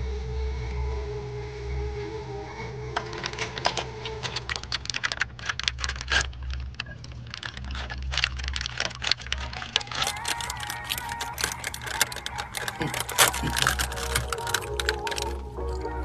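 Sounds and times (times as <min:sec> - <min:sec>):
plastic food packet crinkling: 0:03.0 - 0:16.0.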